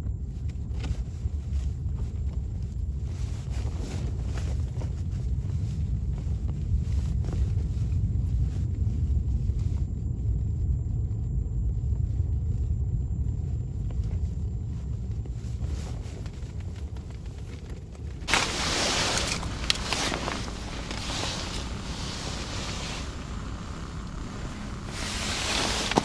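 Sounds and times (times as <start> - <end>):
gusty wind buffeting microphone: 0.0 - 26.0.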